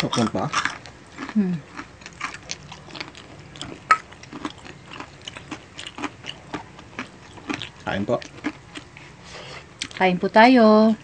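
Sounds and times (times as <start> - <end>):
people chewing food: 0.0 - 10.1.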